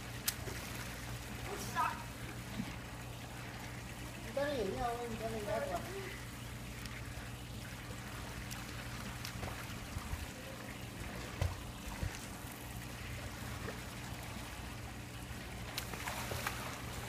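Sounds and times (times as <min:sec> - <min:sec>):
faint water splashes: 0:00.0 - 0:17.0
pool water lapping: 0:00.0 - 0:17.0.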